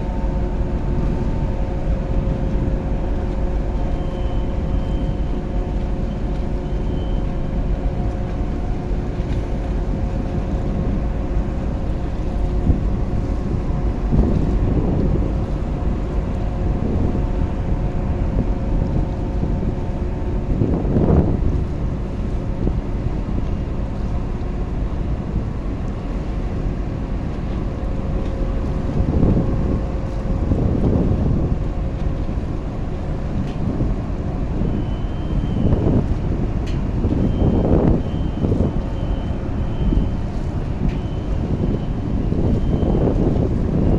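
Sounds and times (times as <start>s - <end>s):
boat engine running: 0.0s - 43.9s
wind on microphone: 0.0s - 43.9s.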